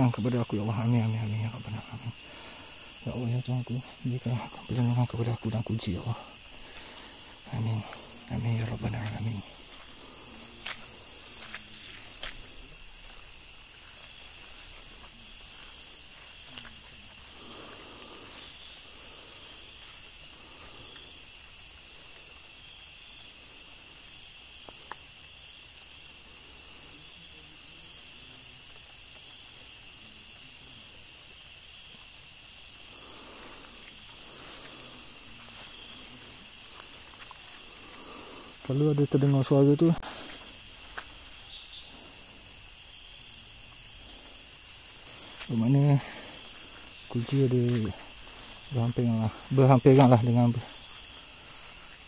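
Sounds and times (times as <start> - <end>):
night insects chorus: 0.0 - 52.0.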